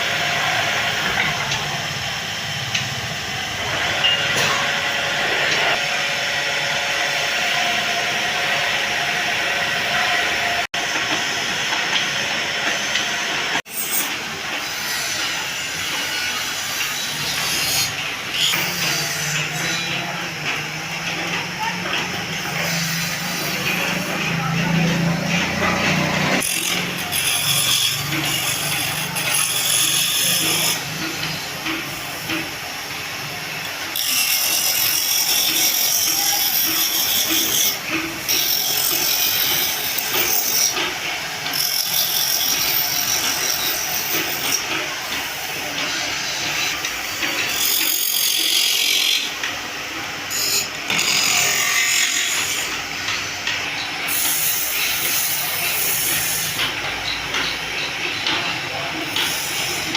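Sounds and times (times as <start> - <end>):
power tool cutting wood: 0.0 - 56.8.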